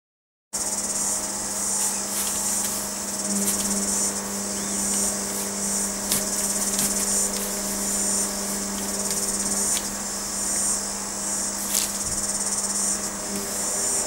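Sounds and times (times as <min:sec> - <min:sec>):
high-pitched insect chorus: 0:00.6 - 0:14.0
low steady hum: 0:00.6 - 0:14.0.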